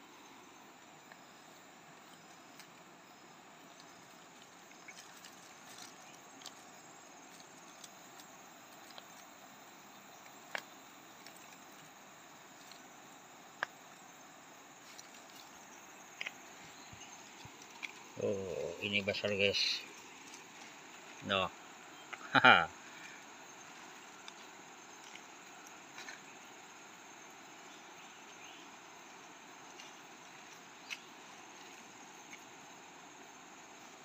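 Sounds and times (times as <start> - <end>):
quiet steady hiss: 0.0 - 34.0
rustling of leaf litter: 1.5 - 34.0.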